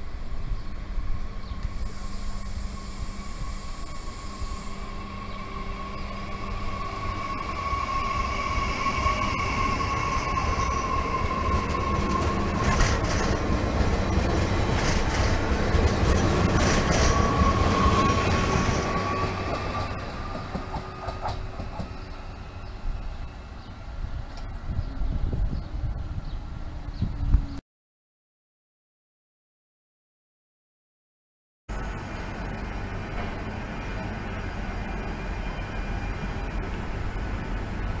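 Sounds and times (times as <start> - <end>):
train passing with high whine: 0.0 - 27.6, 31.7 - 38.0.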